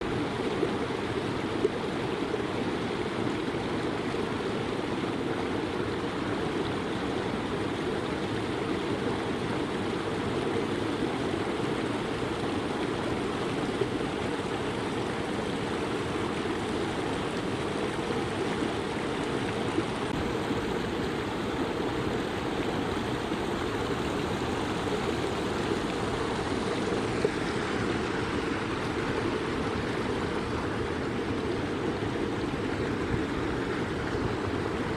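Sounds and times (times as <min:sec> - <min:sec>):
faint water splashes: 0:00.0 - 0:34.9
stream flowing: 0:00.0 - 0:34.9.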